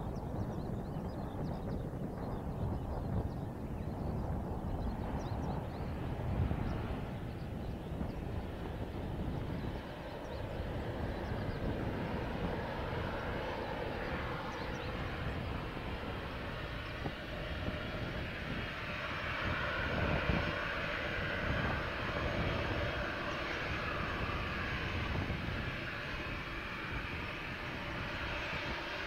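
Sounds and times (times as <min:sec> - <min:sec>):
jet engines whining: 0:00.0 - 0:29.0
wind buffeting microphone: 0:00.0 - 0:29.0.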